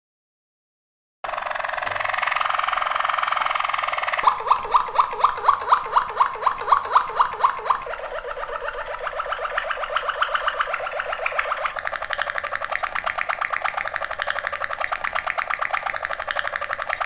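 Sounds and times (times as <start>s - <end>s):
canary singing: 1.3s - 17.0s.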